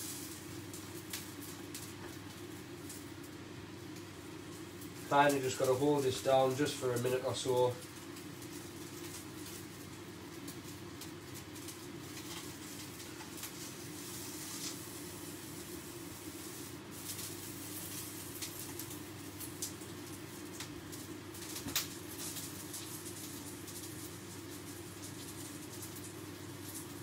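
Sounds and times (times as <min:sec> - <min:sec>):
steak fat sizzling in frying pan: 0:00.0 - 0:27.0.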